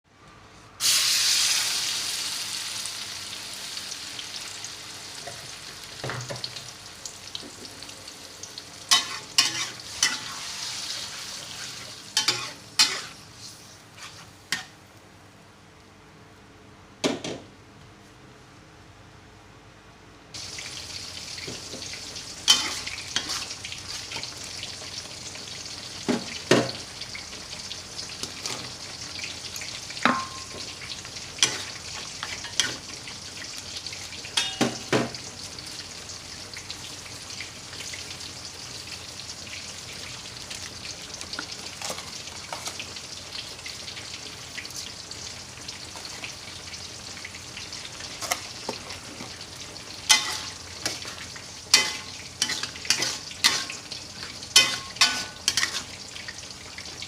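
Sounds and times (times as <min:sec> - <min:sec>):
food frying in hot oil: 0:00.8 - 0:14.8, 0:20.3 - 0:57.0.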